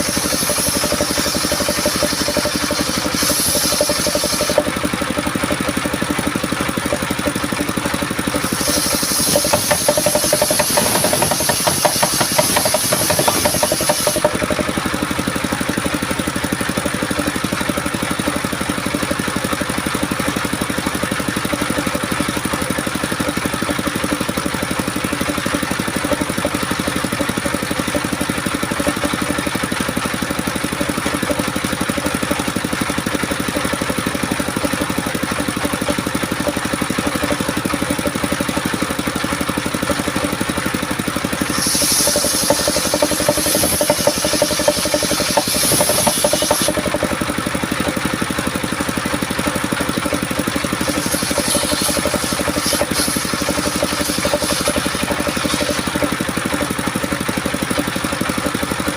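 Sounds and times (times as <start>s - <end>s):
saw blade cutting wood: 0.0s - 19.8s, 20.4s - 58.9s
sawmill engine running: 0.0s - 58.9s.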